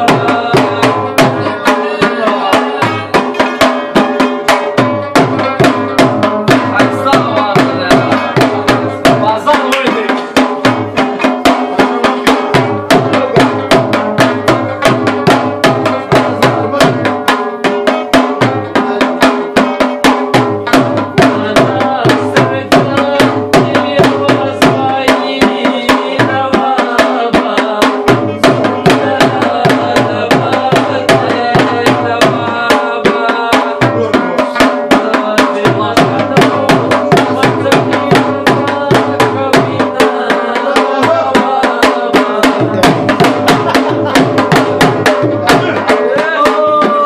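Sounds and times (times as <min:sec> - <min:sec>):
hand drums in fast rhythm: 0:00.0 - 0:47.0.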